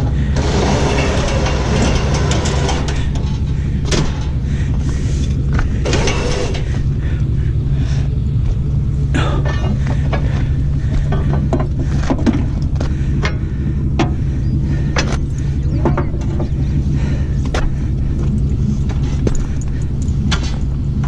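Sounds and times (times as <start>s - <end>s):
metal clanks and knocks: 0.0s - 6.9s, 9.2s - 14.3s, 14.9s - 16.7s, 17.4s - 20.8s
low engine hum: 0.0s - 21.0s.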